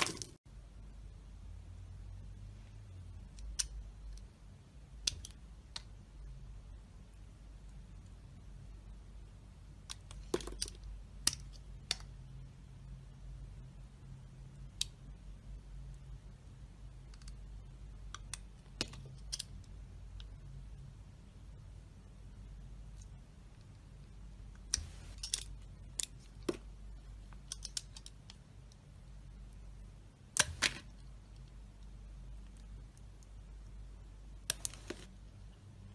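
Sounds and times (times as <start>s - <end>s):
low steady hum: 0.0s - 35.9s.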